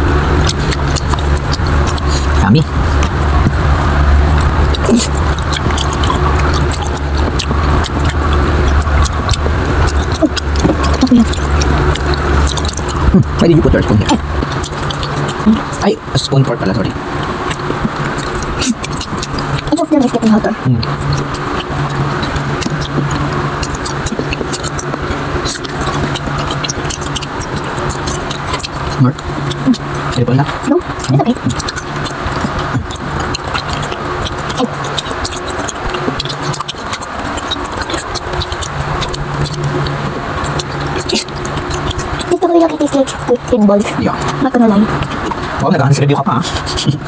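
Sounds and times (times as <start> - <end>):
chewing and mouth clicks: 0.0 - 47.0
steady background hum: 0.0 - 47.0
steady low rumble: 0.0 - 47.0.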